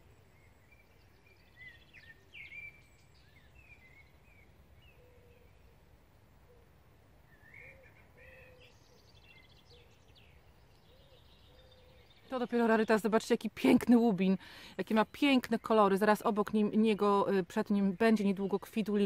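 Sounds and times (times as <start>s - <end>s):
birdsong chirps and warbles: 0.0s - 19.0s.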